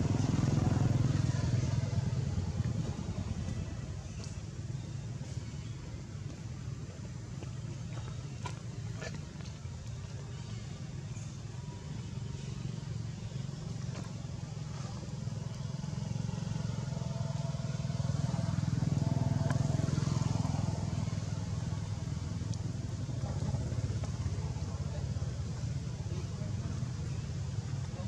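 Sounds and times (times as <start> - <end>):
passing vehicle engine rumble: 0.0 - 28.0.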